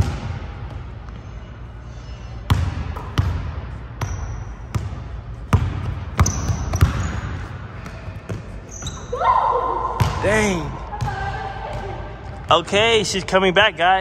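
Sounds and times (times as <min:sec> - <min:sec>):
basketball bouncing on indoor court: 0:00.0 - 0:13.2.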